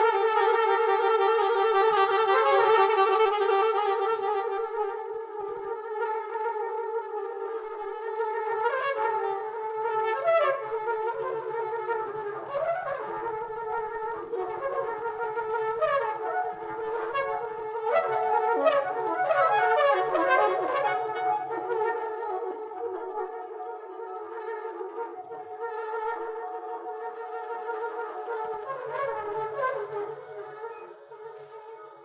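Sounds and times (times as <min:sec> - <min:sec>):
flugelhorn: 0:00.0 - 0:32.0
soprano saxophone: 0:00.0 - 0:32.0.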